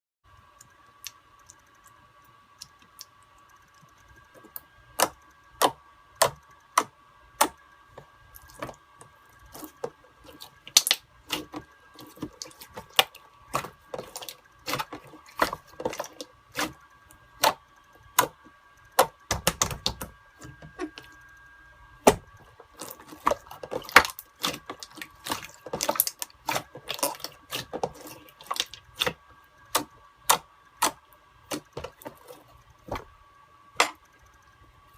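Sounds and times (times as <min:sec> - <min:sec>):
faint steady hum: 0:00.3 - 0:34.9.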